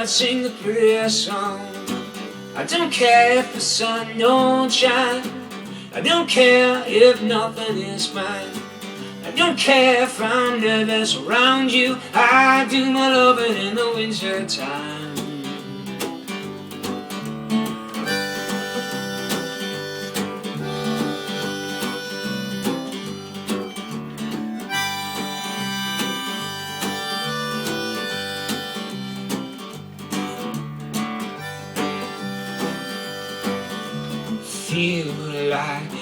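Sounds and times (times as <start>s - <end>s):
harmonica melody: 0.0s - 36.0s
strummed acoustic guitar: 0.0s - 36.0s.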